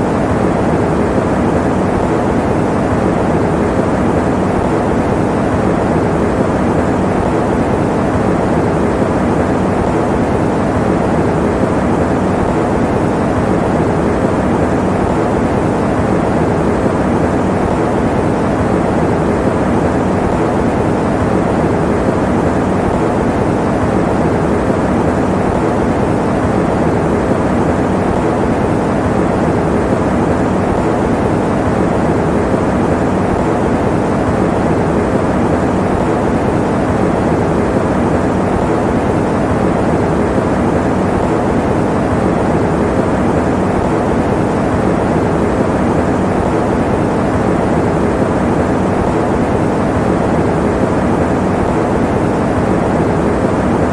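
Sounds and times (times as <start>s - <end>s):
electric fan running: 0.0s - 53.9s.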